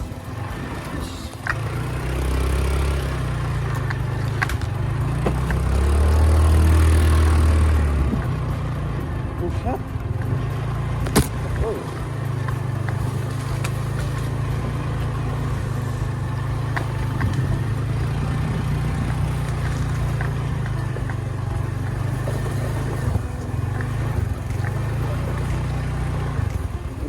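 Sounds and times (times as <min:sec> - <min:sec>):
engine droning: 0:00.0 - 0:27.0.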